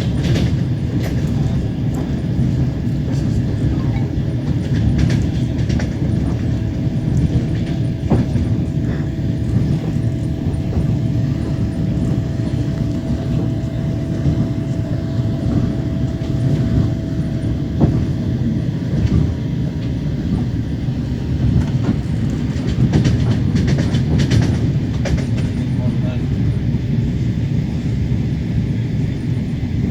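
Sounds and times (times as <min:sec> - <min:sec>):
clacks over rail joints: 0:00.0 - 0:26.6
train wheels rumbling on rails: 0:00.0 - 0:29.9.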